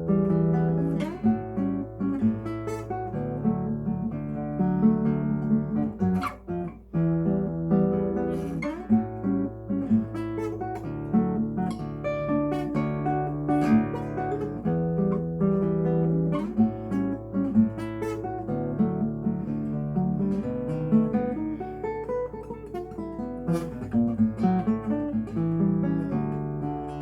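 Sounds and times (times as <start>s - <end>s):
classical guitar fingerpicking: 0.0s - 27.0s.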